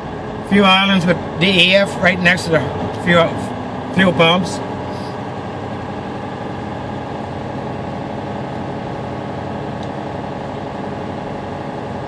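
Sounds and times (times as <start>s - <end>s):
diesel truck engine humming: 0.0s - 12.0s.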